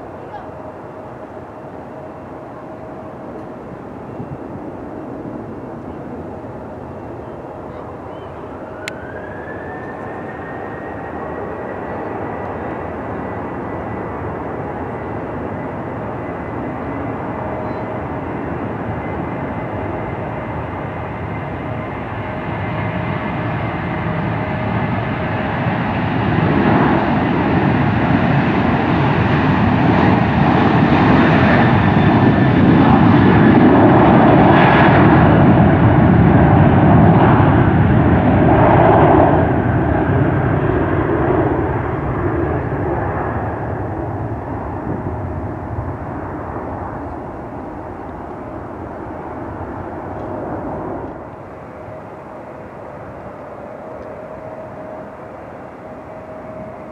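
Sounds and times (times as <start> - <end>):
jet engine rush on takeoff: 0.0 - 56.9.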